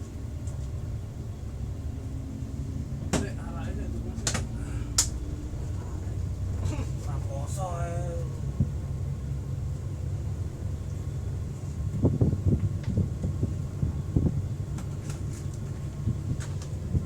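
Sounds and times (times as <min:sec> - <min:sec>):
diesel bus engine idling: 0:00.0 - 0:17.0.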